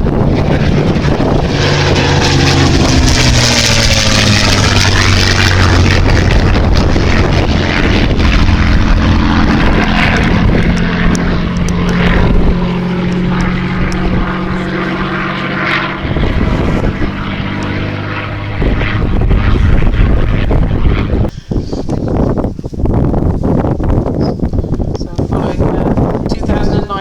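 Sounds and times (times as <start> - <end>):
aircraft engine running loudly: 0.0 - 27.0.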